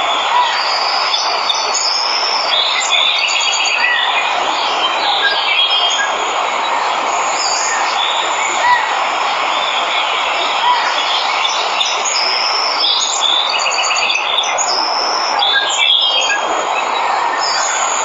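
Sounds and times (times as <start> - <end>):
waterfall rushing: 0.0 - 18.0
birds chirping and trilling: 0.1 - 18.0.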